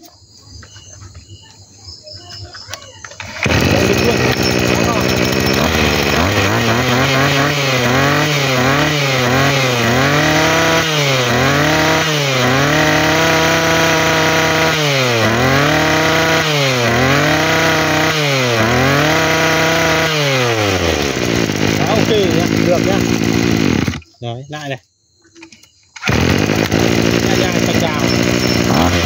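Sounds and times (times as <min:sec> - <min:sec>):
brush cutter engine revving: 0:03.1 - 0:24.7, 0:26.0 - 0:29.0.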